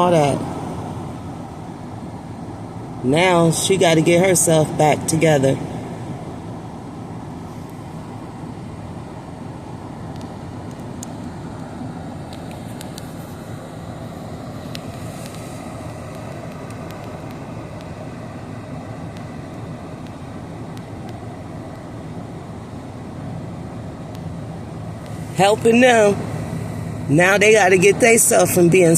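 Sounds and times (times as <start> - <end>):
motor vehicle rumble: 0.0 - 28.9.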